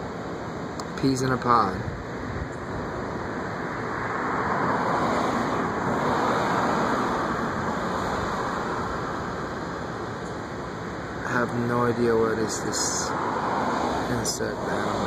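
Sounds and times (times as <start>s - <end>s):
road traffic hiss: 0.0s - 15.0s
car passing: 2.9s - 15.0s.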